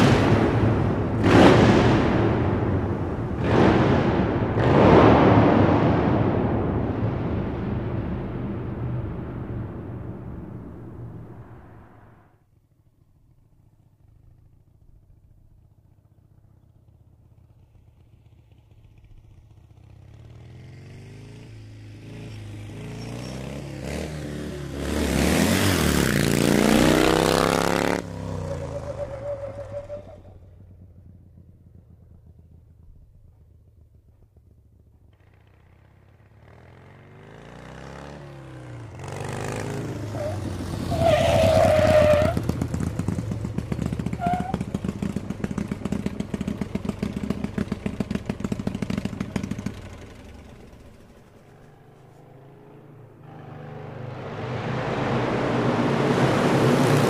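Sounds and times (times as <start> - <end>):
motorcycle engine approaching: 0.0 - 57.0.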